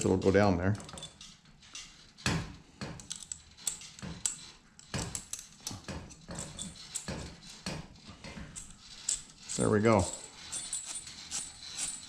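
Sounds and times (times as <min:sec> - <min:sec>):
steel cable clicking and scraping: 0:00.0 - 0:12.0.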